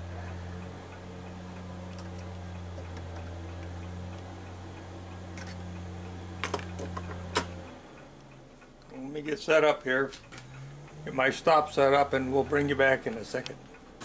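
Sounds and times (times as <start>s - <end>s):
electric motor hum: 0.0s - 8.8s, 10.3s - 14.0s
faint regular ticking: 0.0s - 14.0s.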